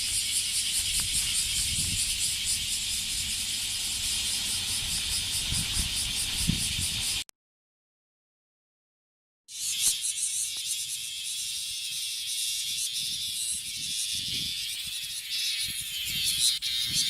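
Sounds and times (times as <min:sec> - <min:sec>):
cicada buzzing: 0:00.0 - 0:07.2, 0:09.5 - 0:17.0.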